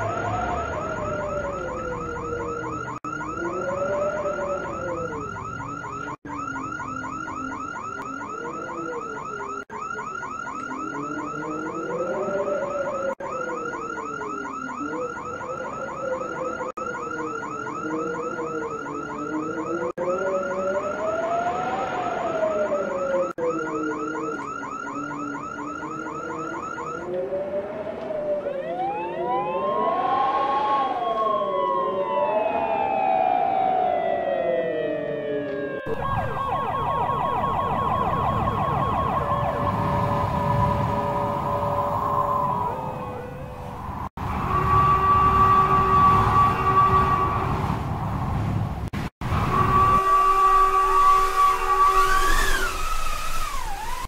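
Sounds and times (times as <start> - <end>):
electronic siren yelping chirp: 0.0 - 27.2, 28.4 - 44.1, 50.0 - 54.0
electronic siren wail: 0.0 - 47.7, 49.3 - 54.0.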